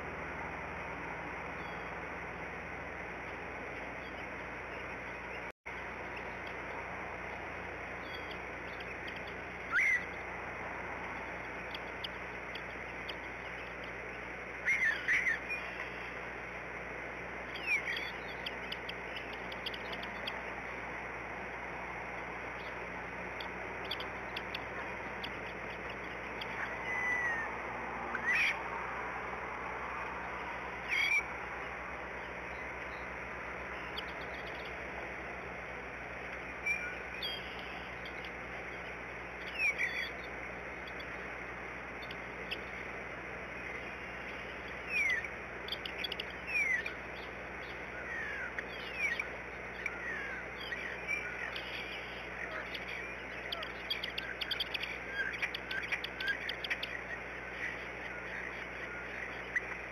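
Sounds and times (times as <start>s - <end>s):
steady outdoor hiss: 0.0s - 59.9s
eagles chirping: 3.4s - 59.9s.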